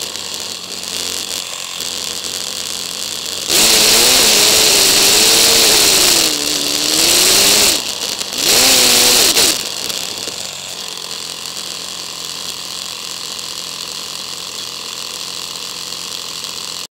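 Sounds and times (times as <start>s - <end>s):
motorcycle idling hum: 0.0s - 16.9s
sped-up motorcycle engine whine: 0.0s - 16.9s.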